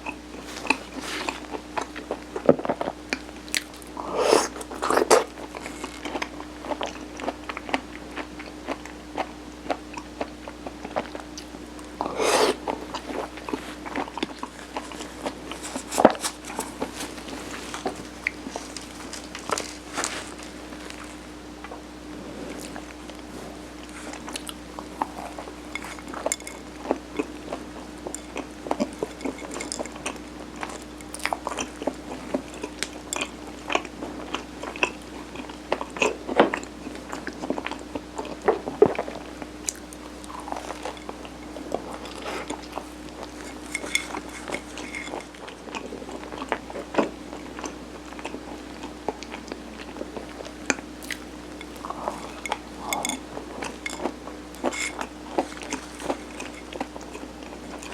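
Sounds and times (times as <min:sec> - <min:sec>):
chewing soft rice cake: 0:00.0 - 0:57.9
faint steady hum: 0:00.0 - 0:57.9.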